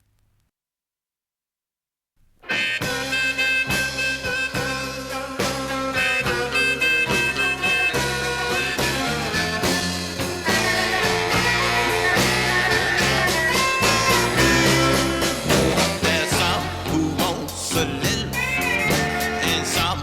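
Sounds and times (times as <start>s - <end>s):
bending lead guitar notes: 2.4s - 20.0s
electric blues band playing: 2.4s - 20.0s.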